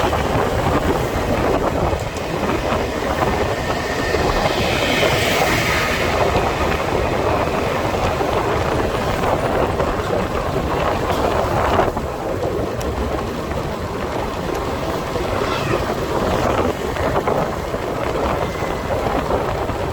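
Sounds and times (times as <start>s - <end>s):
motorbike road noise: 0.0s - 19.9s
wind rushing over microphone: 0.0s - 19.9s.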